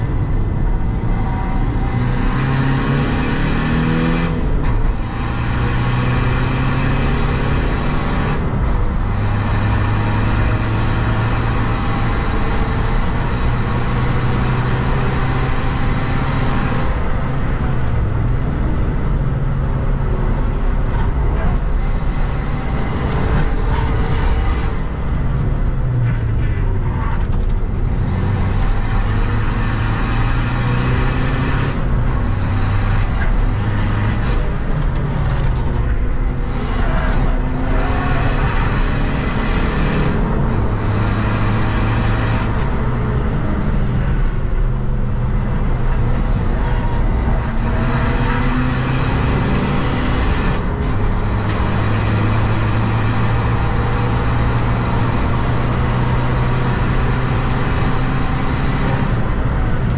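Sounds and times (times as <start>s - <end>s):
diesel engine pulling hard: 0.0s - 59.9s
road and tyre noise: 0.0s - 59.9s.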